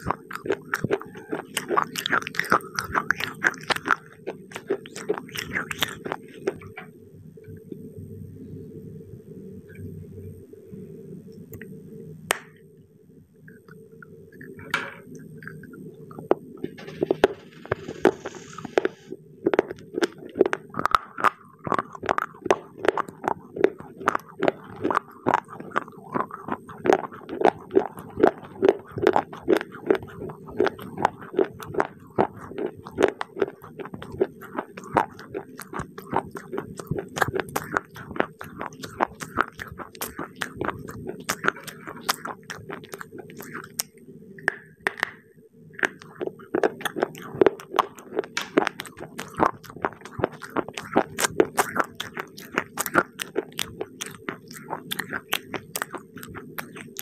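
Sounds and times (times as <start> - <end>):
clay crunching being chewed: 0.0 - 6.8, 13.5 - 16.5, 18.8 - 45.2, 45.8 - 57.0.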